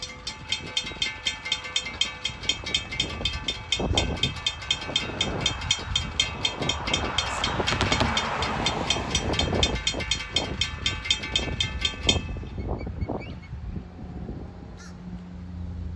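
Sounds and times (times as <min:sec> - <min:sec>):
rapid even ticking: 0:00.0 - 0:12.8
freight train rolling past: 0:00.0 - 0:15.9.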